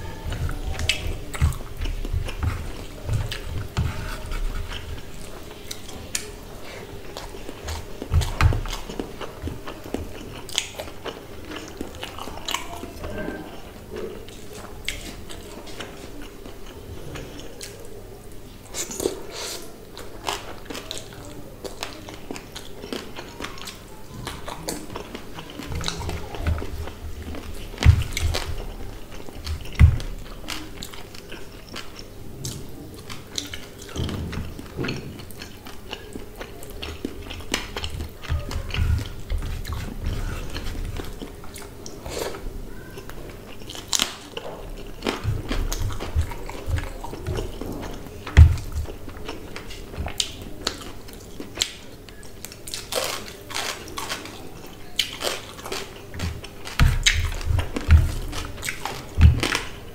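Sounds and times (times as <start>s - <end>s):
wet chewing: 0.0s - 18.0s, 18.7s - 59.9s.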